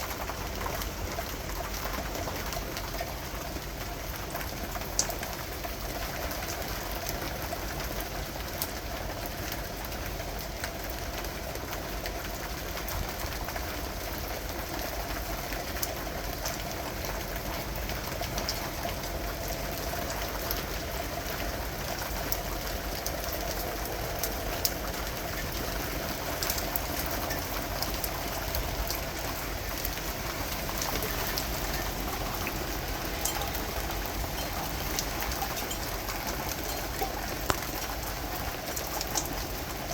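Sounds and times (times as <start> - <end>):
steady rain falling: 0.0 - 39.9
raindrops ticking sharply: 0.1 - 39.9.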